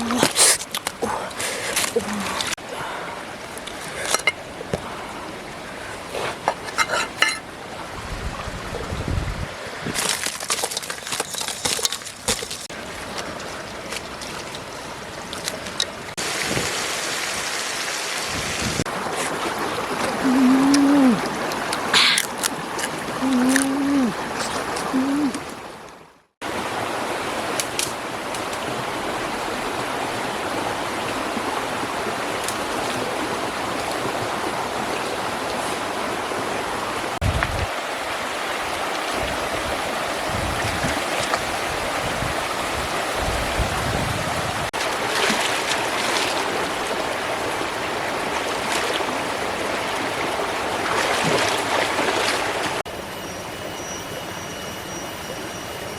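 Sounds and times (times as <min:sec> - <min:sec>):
flowing water rushing: 0:00.0 - 0:55.9.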